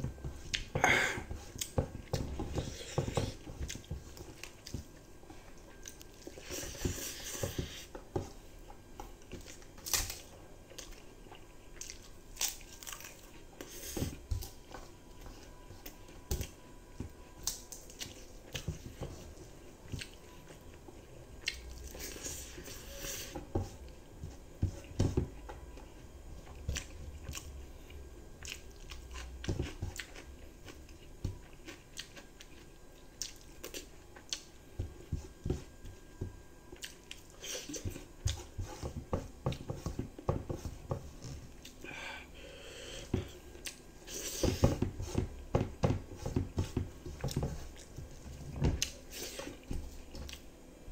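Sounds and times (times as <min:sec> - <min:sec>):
person chewing food: 0:00.0 - 0:50.5.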